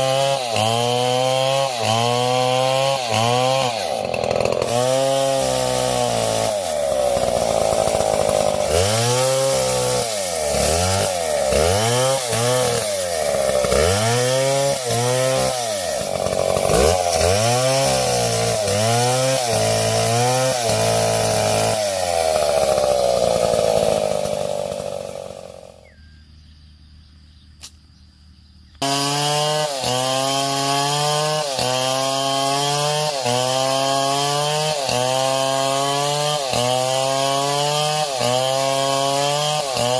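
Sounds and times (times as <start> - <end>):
chainsaw cutting wood: 0.0 - 25.9, 28.8 - 39.9.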